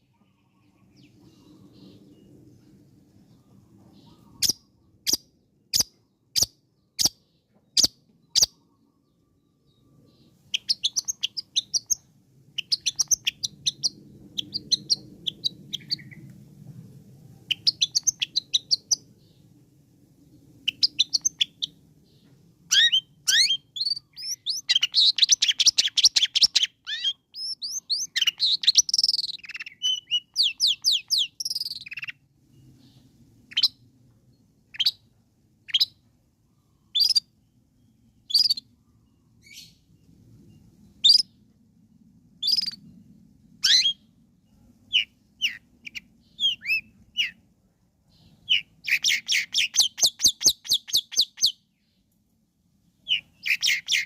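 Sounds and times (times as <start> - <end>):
bird singing sharp calls and trills: 0.0 - 16.6, 17.3 - 41.6, 42.4 - 54.0.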